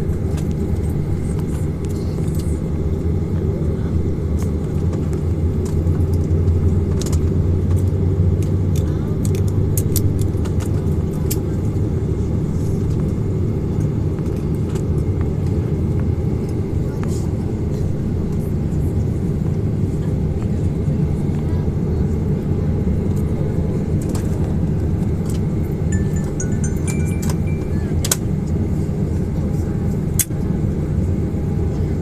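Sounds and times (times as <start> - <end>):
airplane cabin low rumble: 0.0 - 32.0.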